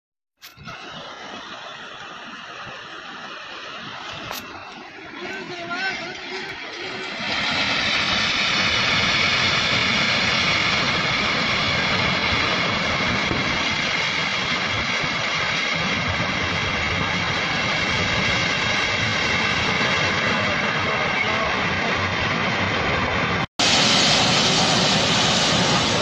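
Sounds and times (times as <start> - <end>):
river roaring: 0.4 - 26.0.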